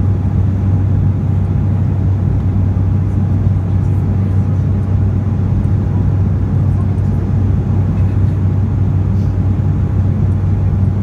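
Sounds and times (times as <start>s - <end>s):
faint constant hum: 0.0s - 11.0s
jet engine drone and rushing air: 0.0s - 11.0s.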